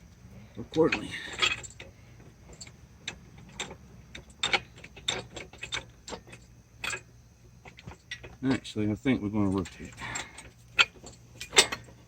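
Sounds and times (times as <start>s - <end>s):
metal clicks and clinks: 0.7s - 8.4s, 9.4s - 12.0s.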